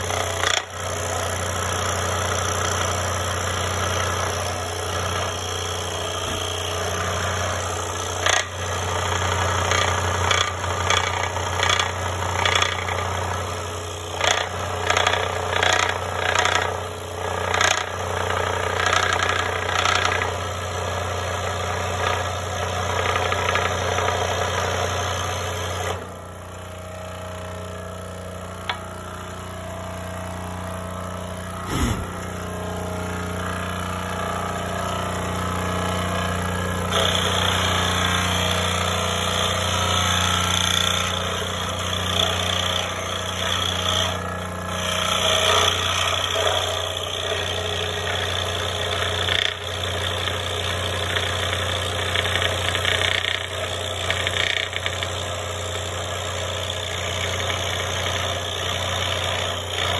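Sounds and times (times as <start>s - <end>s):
saw blade rasping through wood: 0.0s - 26.2s, 31.0s - 59.9s
scroll saw motor hum: 0.0s - 59.9s.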